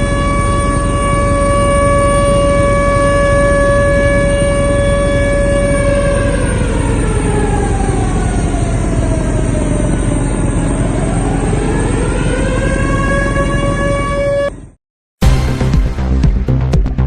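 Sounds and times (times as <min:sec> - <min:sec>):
wailing warning siren: 0:00.0 - 0:14.8.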